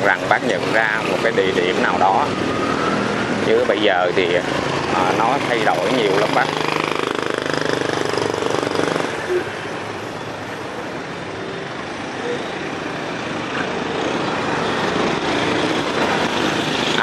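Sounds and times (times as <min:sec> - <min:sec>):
motorbikes on street: 0:00.0 - 0:17.0.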